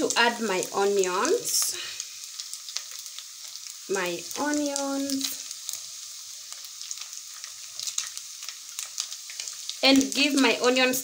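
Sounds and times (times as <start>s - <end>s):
fish frying in oil: 0.0s - 11.0s
onions crackling in oil: 0.0s - 11.0s.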